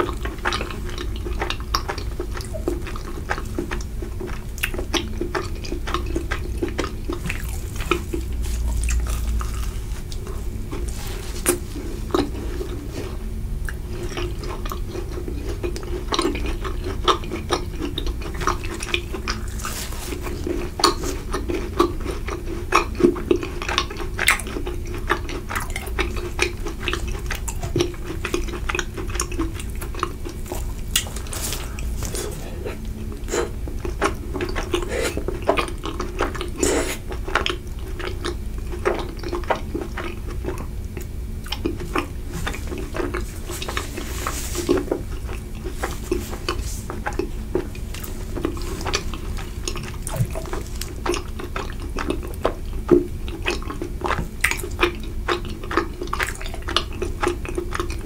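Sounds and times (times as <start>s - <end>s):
chewing with wet mouth clicks: 0.0s - 58.0s.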